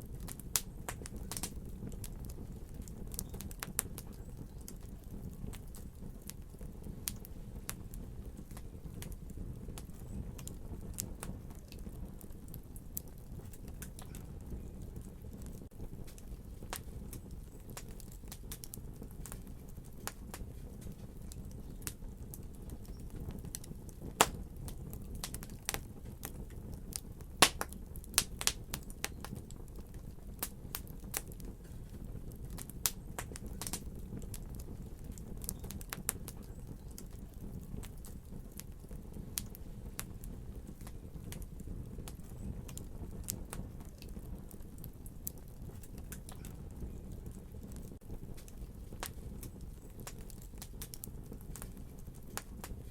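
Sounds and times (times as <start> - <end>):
fire pops and snaps: 0.0 - 52.9
low rumble of flames: 0.0 - 52.9.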